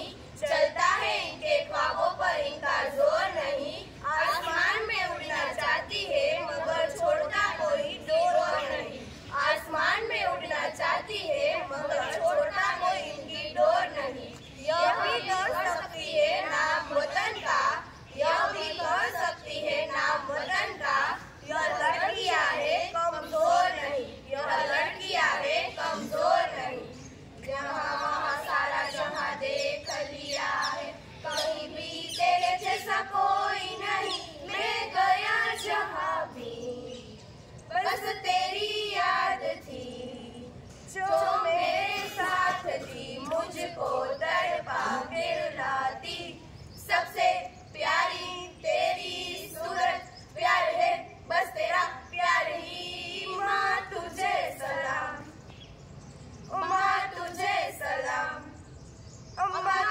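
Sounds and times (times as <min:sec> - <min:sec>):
girls singing in unison: 0:00.0 - 0:55.5, 0:56.4 - 0:58.7, 0:59.4 - 0:59.9.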